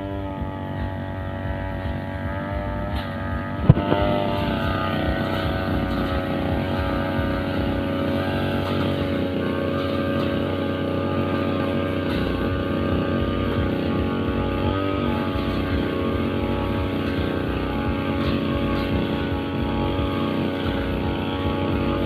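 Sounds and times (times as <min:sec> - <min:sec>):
brushcutter engine running: 0:00.0 - 0:22.0.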